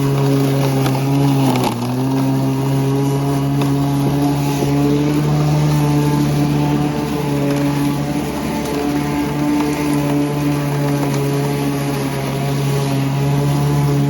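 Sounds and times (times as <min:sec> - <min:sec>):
electric lawn mower running: 0:00.0 - 0:14.0.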